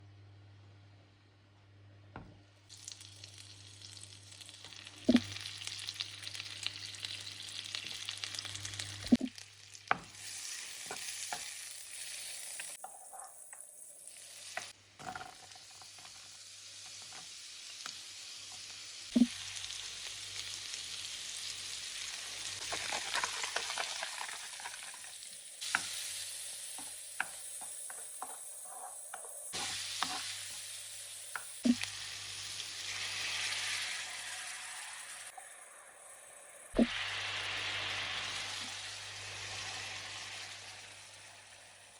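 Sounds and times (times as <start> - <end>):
food sizzling in a pan: 2.7 - 41.9.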